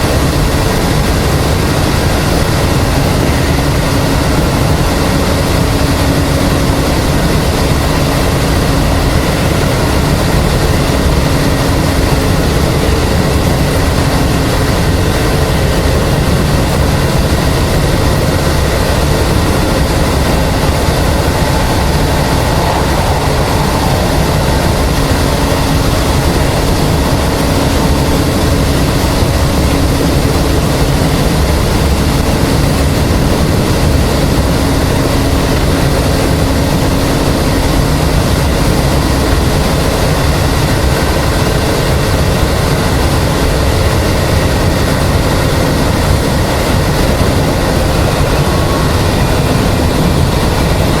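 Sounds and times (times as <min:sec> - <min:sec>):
traction motor hum: 0:00.0 - 0:51.0
train wheels rolling on rails: 0:00.0 - 0:51.0.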